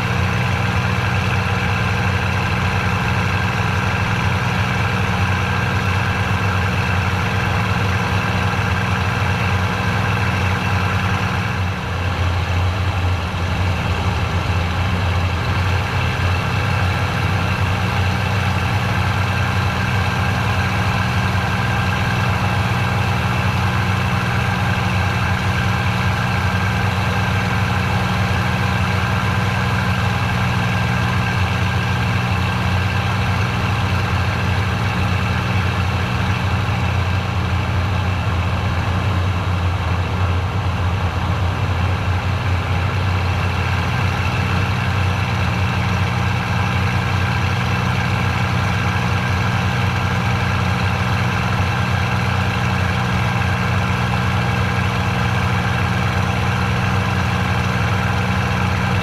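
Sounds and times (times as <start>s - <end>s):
propeller aircraft engine droning: 0.0s - 59.0s.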